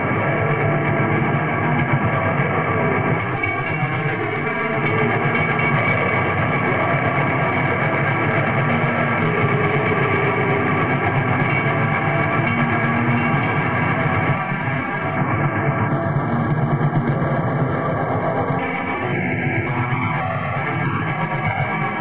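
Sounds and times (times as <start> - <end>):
distorted guitar black metal: 0.0 - 22.0.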